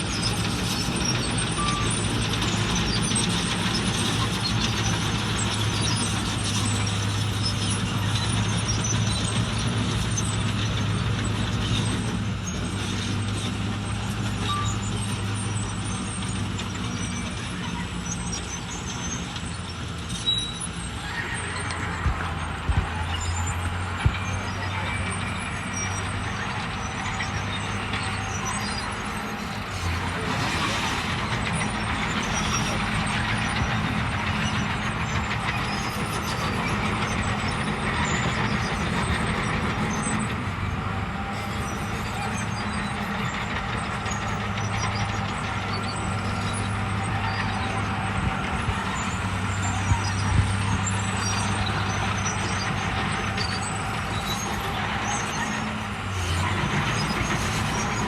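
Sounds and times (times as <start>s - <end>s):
heavy machinery diesel engines: 0.0s - 58.0s.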